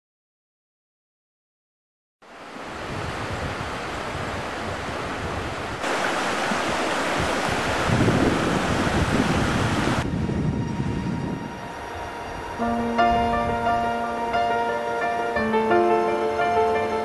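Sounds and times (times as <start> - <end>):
rushing outdoor noise: 2.2 - 17.0.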